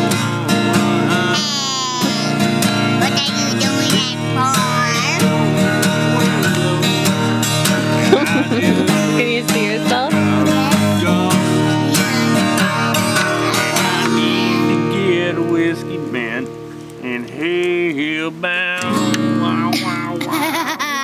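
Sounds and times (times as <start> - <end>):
country music with acoustic guitar: 0.0 - 21.0.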